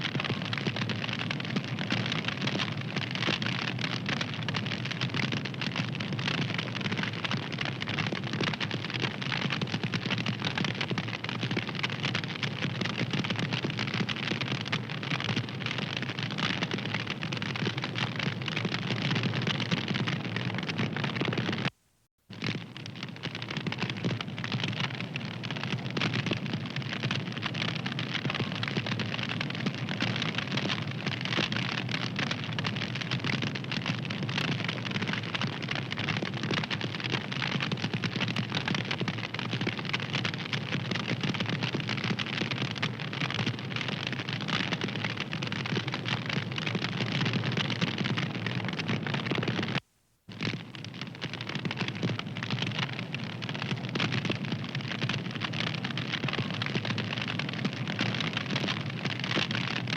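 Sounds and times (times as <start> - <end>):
fire crackling: 3.8 - 59.9.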